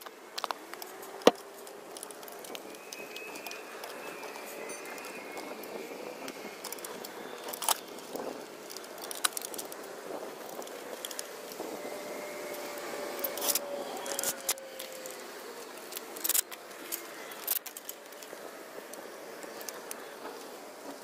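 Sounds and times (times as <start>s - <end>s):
small metallic handling sounds: 0.0s - 20.9s.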